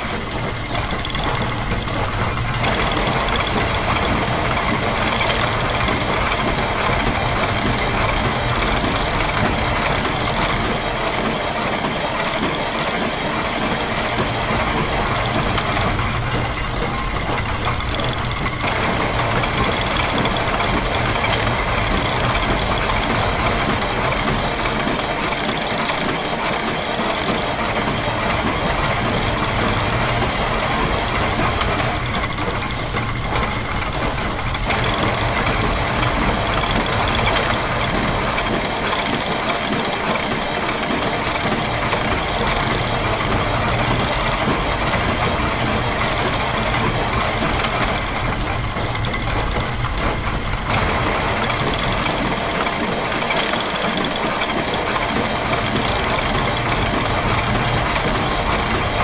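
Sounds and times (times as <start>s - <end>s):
engine-like machine running: 0.0s - 59.0s
gears and ratchets clicking: 0.0s - 59.0s.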